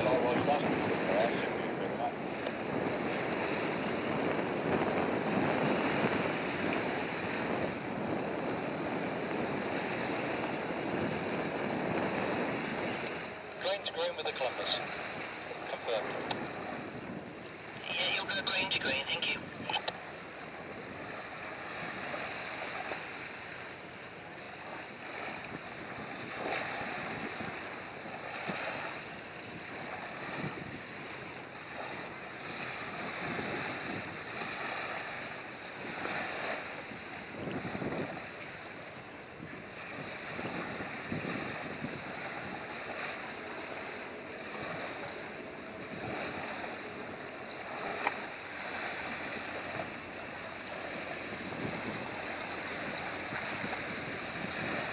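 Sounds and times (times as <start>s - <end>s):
water washing at shore: 0.0s - 54.9s
wind gusting over microphone: 0.0s - 54.9s.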